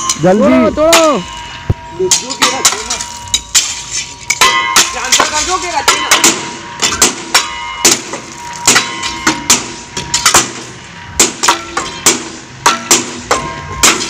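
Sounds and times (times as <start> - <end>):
pickaxes striking track and gravel: 0.0 - 14.0.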